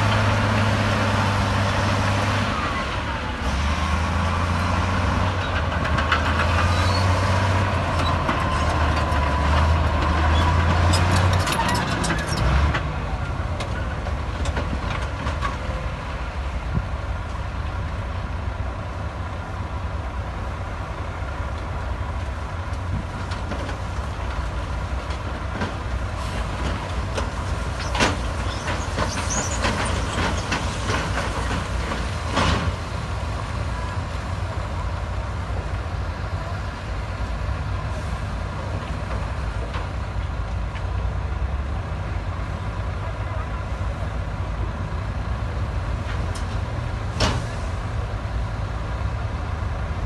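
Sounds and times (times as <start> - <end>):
diesel machinery running: 0.0 - 50.0.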